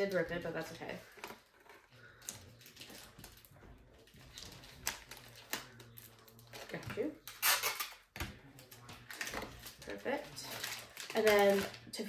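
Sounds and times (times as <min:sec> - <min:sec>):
wrapping paper rustling: 0:00.0 - 0:12.0.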